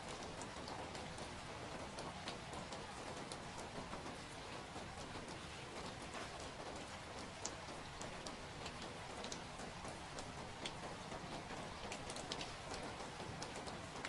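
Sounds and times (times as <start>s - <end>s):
raindrops ticking: 0.0s - 14.0s
steady rain hiss: 0.0s - 14.0s.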